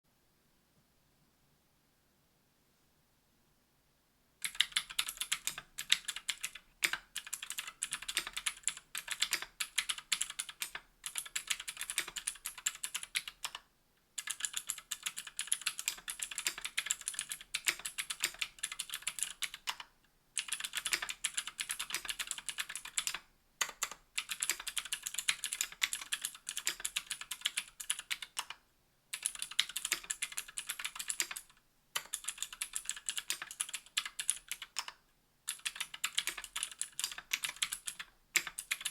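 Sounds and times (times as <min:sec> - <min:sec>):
mechanical keyboard clicky typing: 0:04.4 - 0:13.6, 0:14.2 - 0:28.6, 0:29.2 - 0:38.9.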